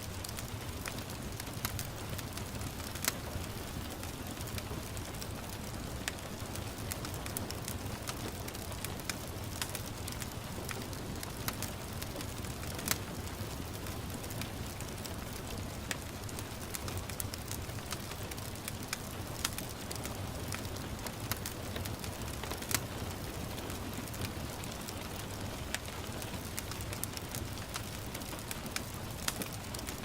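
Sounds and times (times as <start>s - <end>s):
gentle rain hiss: 0.0s - 30.0s
wood fire crackling and popping: 0.0s - 30.0s.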